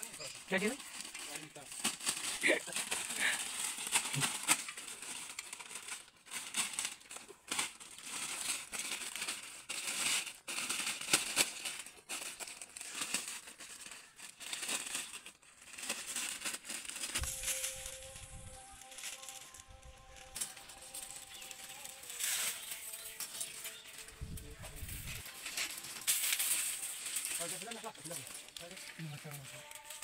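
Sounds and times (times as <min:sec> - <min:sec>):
plastic wrapping crinkling: 0:00.0 - 0:30.0.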